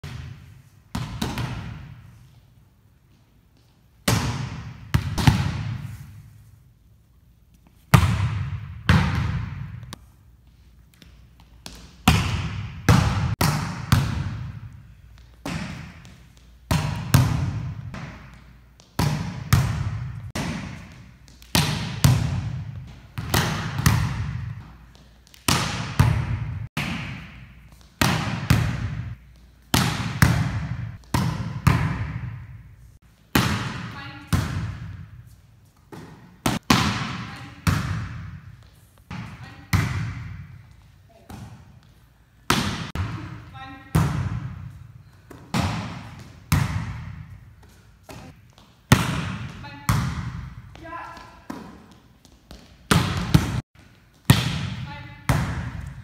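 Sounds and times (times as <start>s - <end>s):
volleyball smacks echoing in gym: 0.0s - 2.4s, 3.5s - 6.4s, 7.5s - 56.0s.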